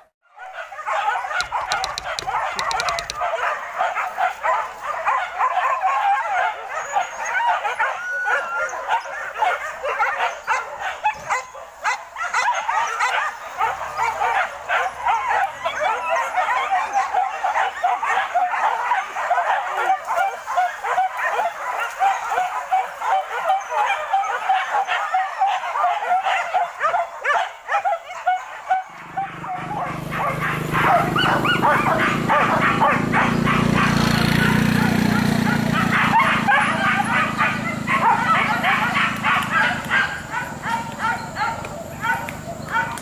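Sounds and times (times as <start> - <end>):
dogs yelping and barking: 0.0 - 43.0.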